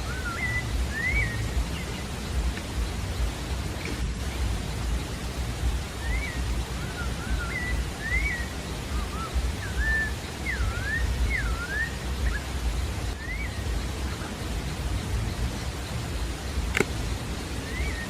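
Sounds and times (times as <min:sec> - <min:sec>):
low rumble: 0:00.0 - 0:18.0
rushing background noise: 0:00.0 - 0:18.0
thrush singing: 0:00.0 - 0:18.0.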